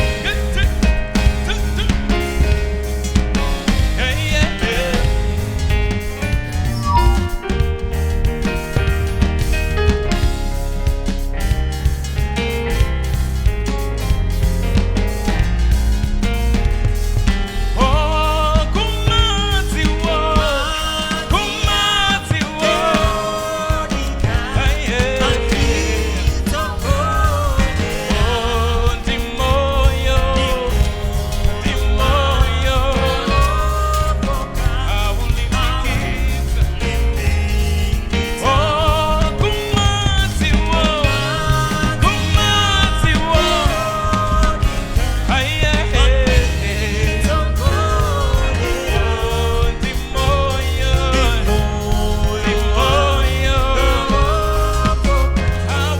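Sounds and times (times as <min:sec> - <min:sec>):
voices singing slow melody: 0:00.0 - 0:13.5, 0:14.2 - 0:55.9
worship band with drums and bass: 0:00.0 - 0:55.9.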